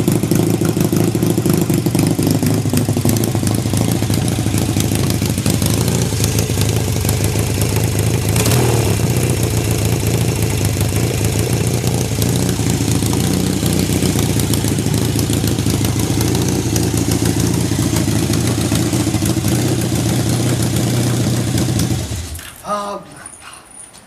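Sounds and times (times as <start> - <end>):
motorcycle engine idling: 0.0 - 22.4.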